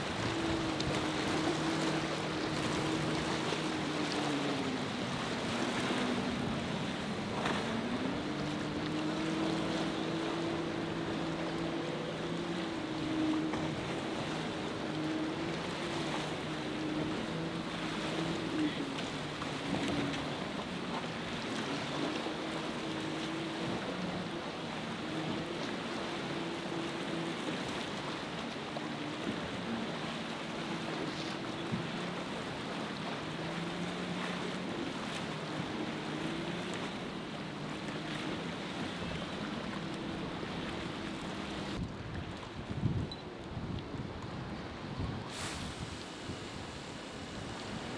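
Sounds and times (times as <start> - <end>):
outboard motor running: 0.0 - 47.9
waves: 0.0 - 47.9
wind: 0.0 - 47.9.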